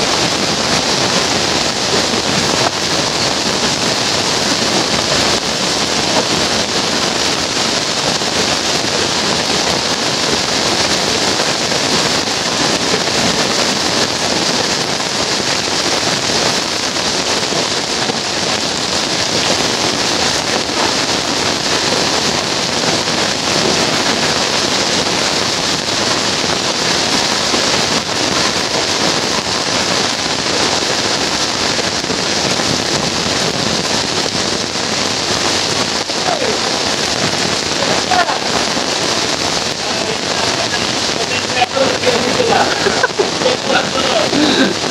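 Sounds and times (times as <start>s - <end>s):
heavy rain on wet pavement: 0.0s - 44.9s.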